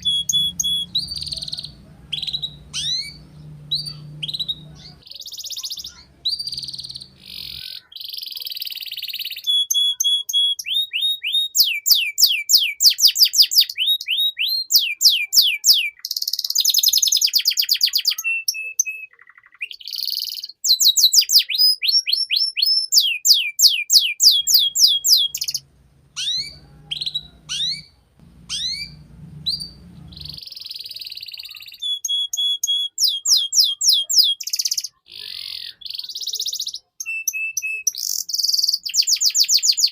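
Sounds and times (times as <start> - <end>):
canary singing: 0.0 - 16.4, 17.0 - 39.9.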